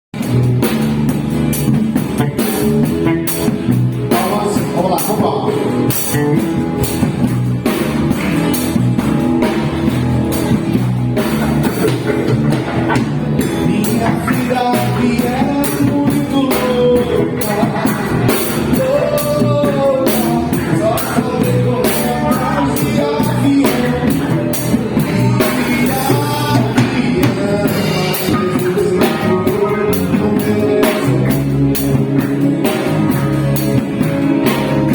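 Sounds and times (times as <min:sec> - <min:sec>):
rock band playing: 0:00.1 - 0:34.9.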